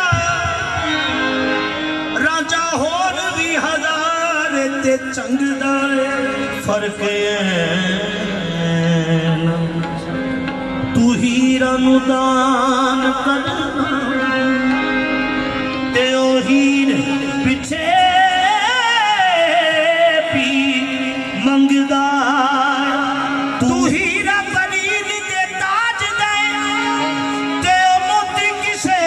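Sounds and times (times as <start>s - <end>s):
harmoniums holding a note: 0.0s - 29.0s.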